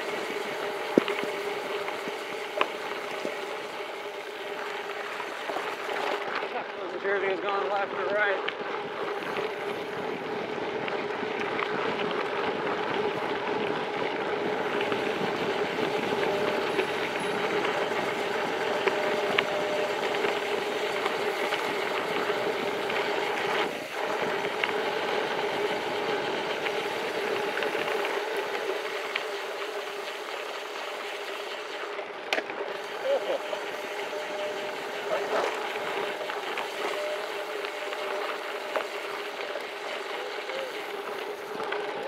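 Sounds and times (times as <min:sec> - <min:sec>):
bike tyres rumbling on dirt road: 0:00.0 - 0:42.0.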